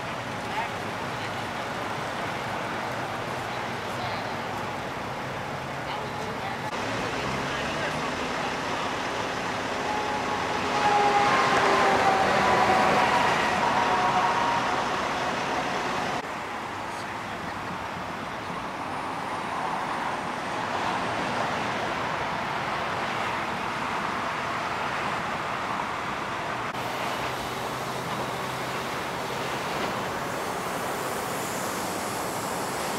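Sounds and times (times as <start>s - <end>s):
freeway traffic rush: 0.0s - 32.9s.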